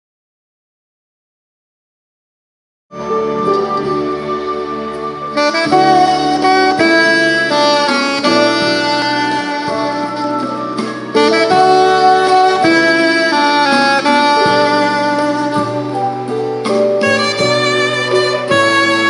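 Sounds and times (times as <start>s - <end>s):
saxophone melody: 3.0s - 19.0s.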